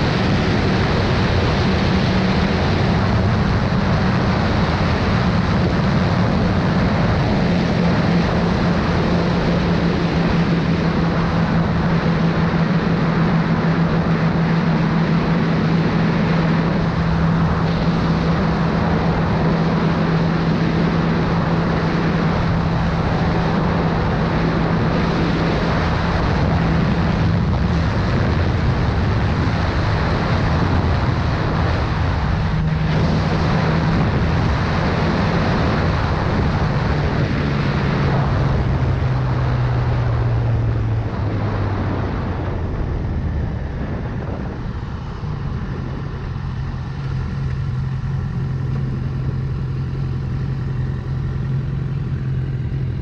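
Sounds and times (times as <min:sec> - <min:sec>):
motorcycle engine running: 0:00.0 - 0:53.0
wind rush: 0:00.0 - 0:53.0.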